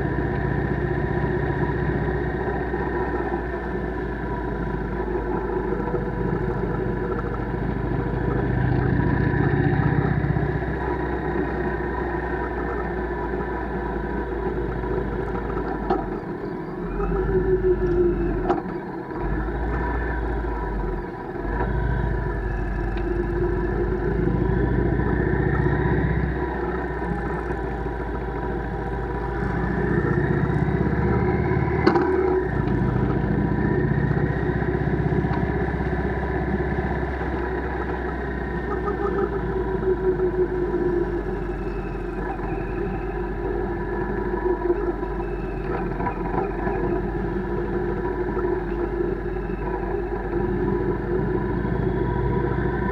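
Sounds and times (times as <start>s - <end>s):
bike riding rumble: 0.0s - 52.9s
constant hum: 0.0s - 52.9s.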